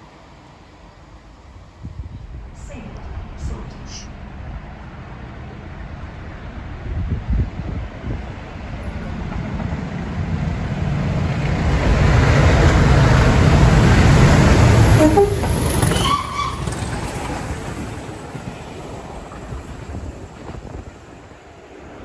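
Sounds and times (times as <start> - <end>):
diesel locomotive engine rumble: 0.0 - 22.0.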